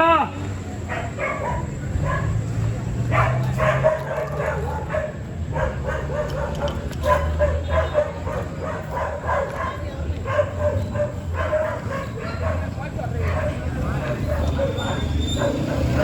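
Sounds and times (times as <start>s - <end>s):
small dog barking: 0.9s - 2.4s, 3.1s - 16.0s.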